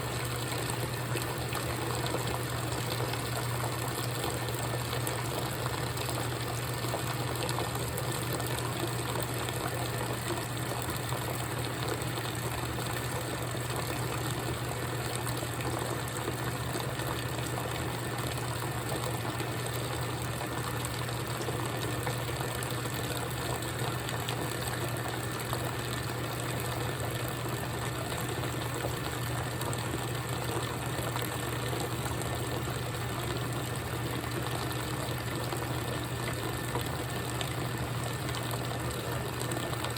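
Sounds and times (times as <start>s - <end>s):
washing machine motor hum: 0.0s - 39.9s
water sloshing in washing machine: 0.0s - 39.9s.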